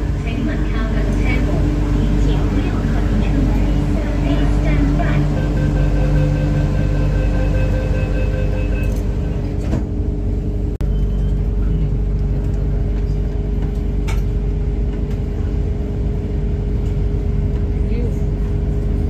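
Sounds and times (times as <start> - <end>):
vehicle cabin rumble: 0.0 - 19.0.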